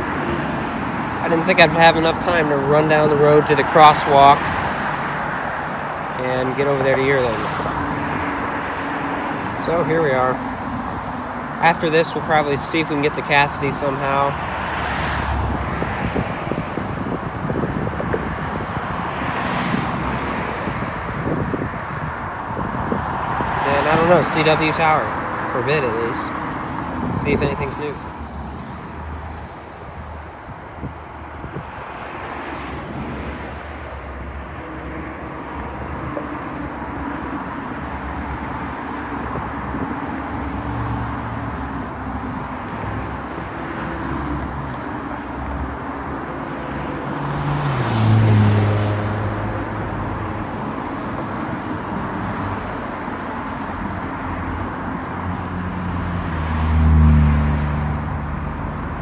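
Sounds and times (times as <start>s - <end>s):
road traffic: 0.0s - 59.0s
vehicles passing close by: 0.0s - 59.0s.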